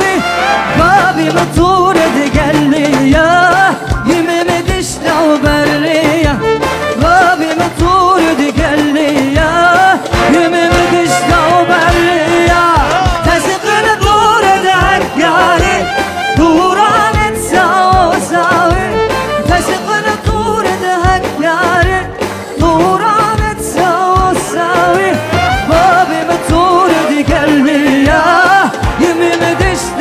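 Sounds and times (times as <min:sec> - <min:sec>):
person singing: 0:00.0 - 0:30.0
steady drum beat: 0:00.0 - 0:30.0.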